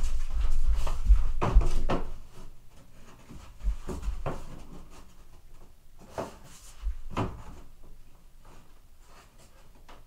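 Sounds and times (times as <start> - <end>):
wood casing knocks and rubs: 0.0 - 8.7.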